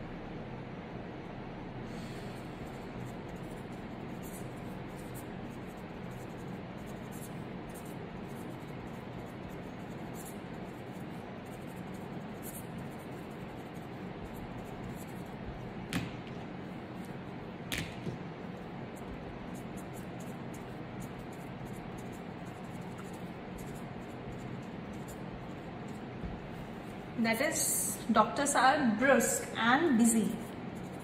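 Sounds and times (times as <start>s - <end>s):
marker scratching on paper: 2.4s - 27.7s, 30.0s - 31.0s.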